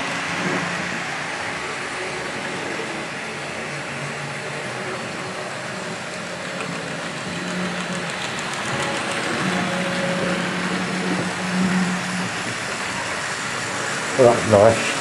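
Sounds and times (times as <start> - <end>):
electric motor hum: 0.0 - 15.0
model train wheels rolling on rail: 0.0 - 15.0.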